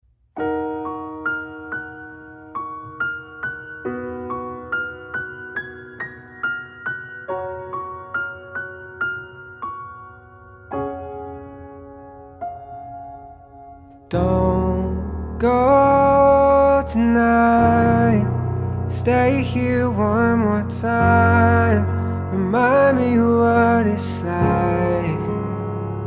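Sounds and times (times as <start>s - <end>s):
gentle piano music: 0.3s - 26.0s.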